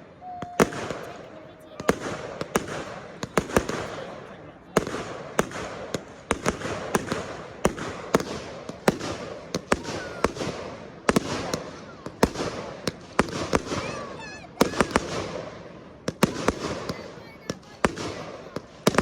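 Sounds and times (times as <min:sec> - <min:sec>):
fireworks bangs with rumbling echoes: 0:00.0 - 0:19.0.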